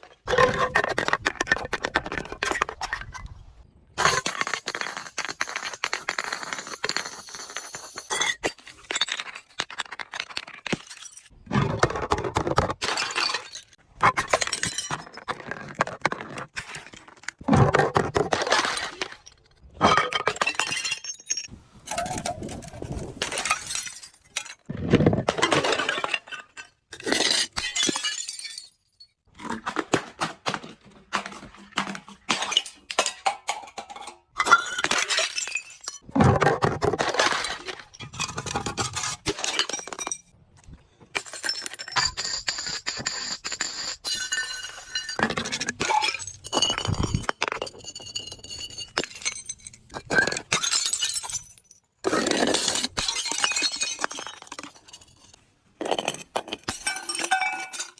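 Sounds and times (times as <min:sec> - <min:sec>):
glass bottles crushing and shattering: 0:04.0 - 0:40.4, 0:41.1 - 0:57.9.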